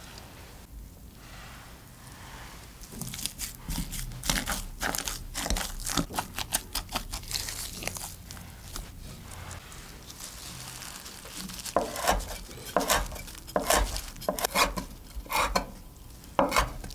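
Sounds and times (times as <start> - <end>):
wet squishy potato mashing: 2.9 - 16.9.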